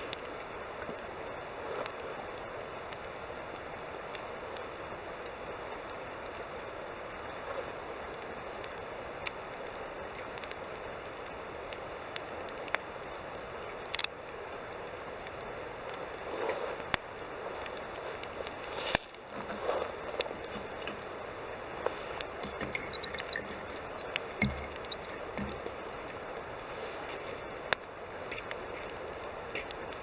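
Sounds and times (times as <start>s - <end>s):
campfire crackling and hissing: 0.0s - 30.0s.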